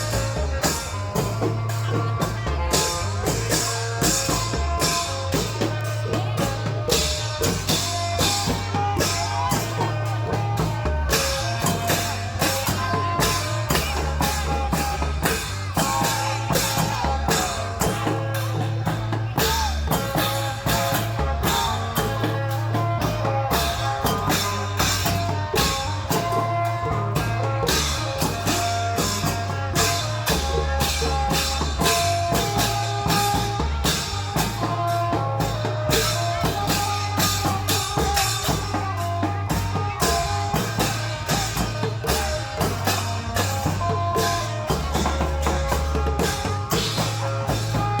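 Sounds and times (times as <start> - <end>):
drum band music: 0.0 - 48.0.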